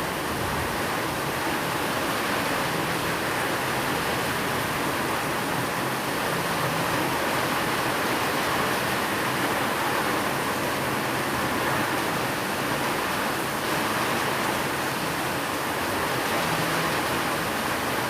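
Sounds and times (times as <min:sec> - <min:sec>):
steady rain hiss: 0:00.0 - 0:18.0
white noise: 0:00.0 - 0:18.0.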